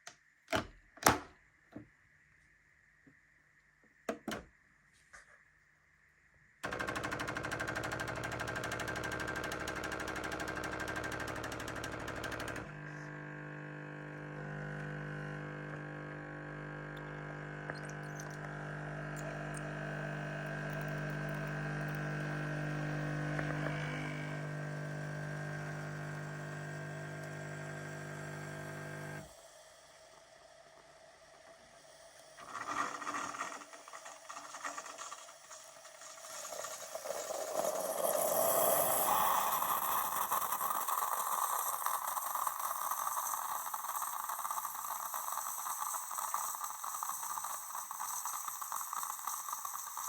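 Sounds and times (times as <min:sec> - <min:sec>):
coffee machine pump buzzing: 0:06.6 - 0:31.6, 0:32.2 - 0:50.0.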